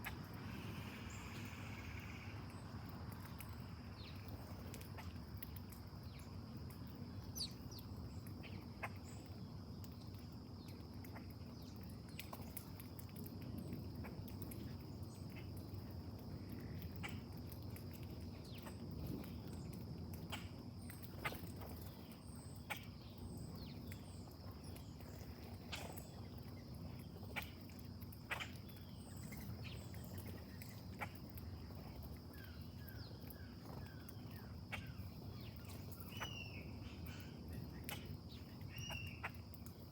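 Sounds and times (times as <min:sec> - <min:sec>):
bird chirps and clicks: 0:01.1 - 0:39.9.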